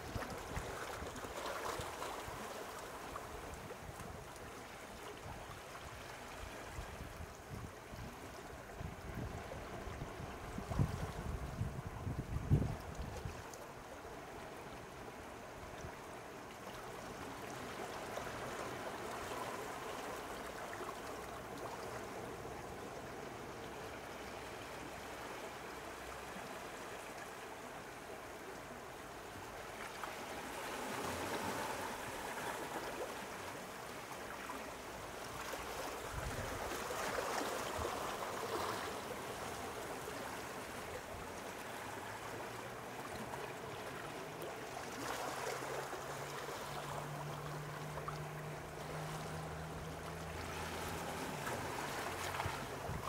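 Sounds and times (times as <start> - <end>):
sea waves lapping at shore: 0.0 - 53.0.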